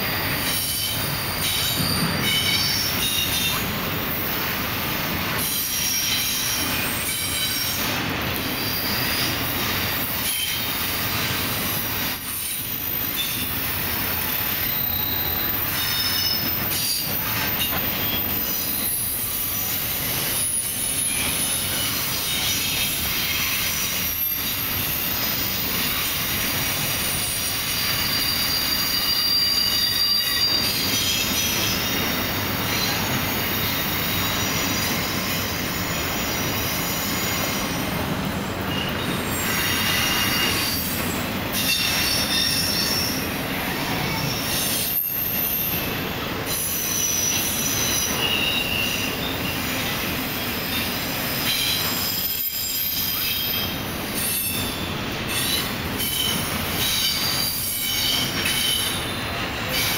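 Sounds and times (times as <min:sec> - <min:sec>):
freight train rolling: 0:00.0 - 0:59.9
steel wheels squealing on rail: 0:00.0 - 0:59.9.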